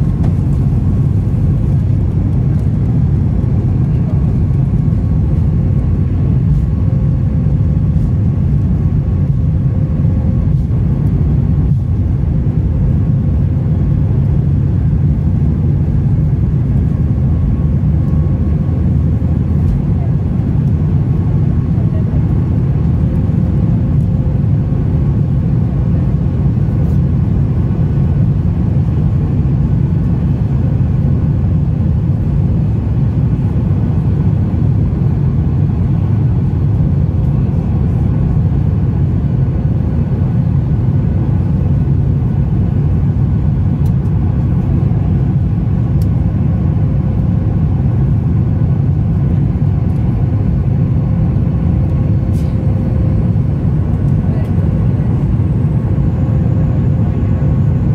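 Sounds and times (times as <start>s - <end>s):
faint steady hum: 0.0s - 57.9s
jet engines rumbling in cabin: 0.0s - 57.9s.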